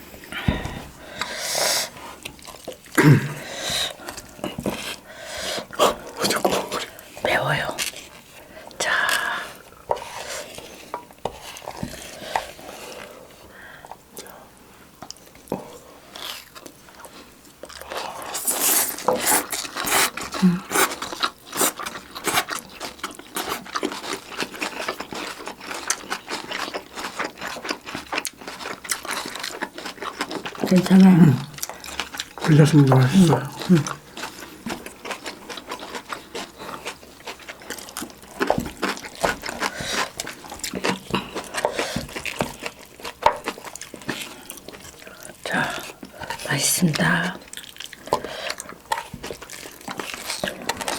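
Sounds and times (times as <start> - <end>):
chewing and crunching food: 0.0 - 50.9.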